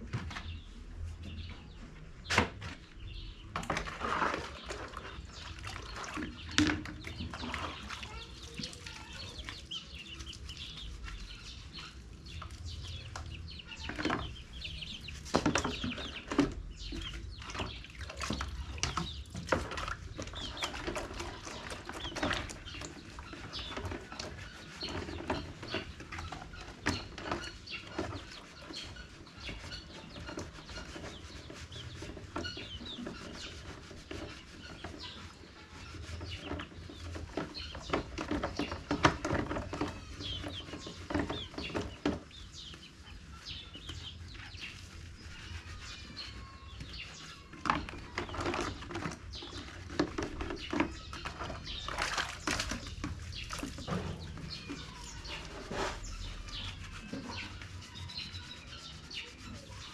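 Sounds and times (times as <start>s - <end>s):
chickens clucking: 3.1s - 59.9s.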